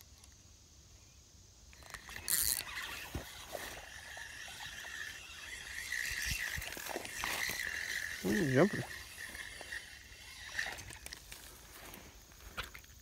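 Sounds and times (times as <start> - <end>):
fishing reel whirring: 1.7 - 13.0.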